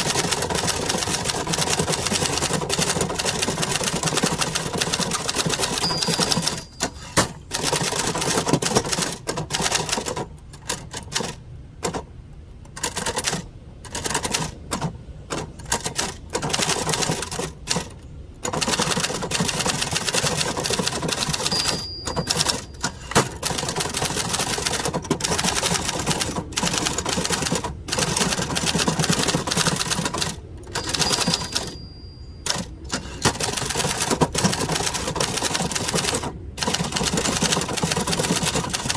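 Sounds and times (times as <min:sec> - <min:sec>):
typewriter keys clacking: 0:00.0 - 0:12.0, 0:12.7 - 0:38.9.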